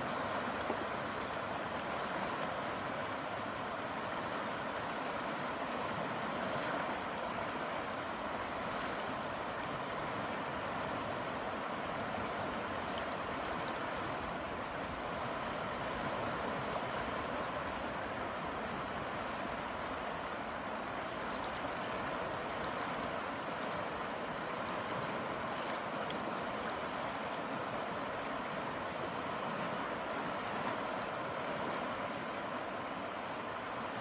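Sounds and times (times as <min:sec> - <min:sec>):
river current rushing: 0:00.0 - 0:34.0.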